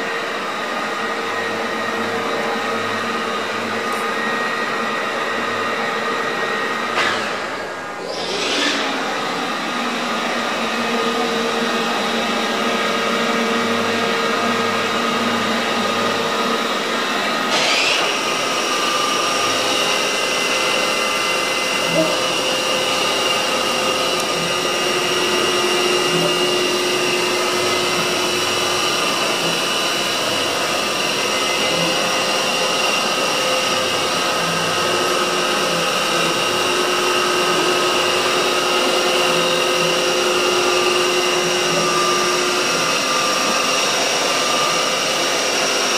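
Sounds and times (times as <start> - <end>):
milling machine motor whine: 0.0 - 45.9.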